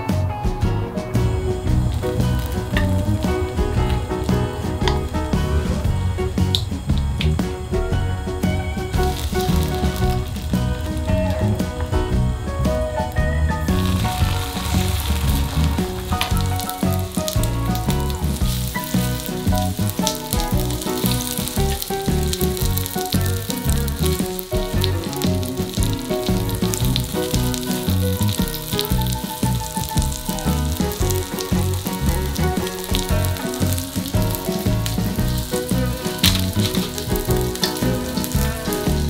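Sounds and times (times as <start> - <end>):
food sizzling in oil: 1.1 - 39.0.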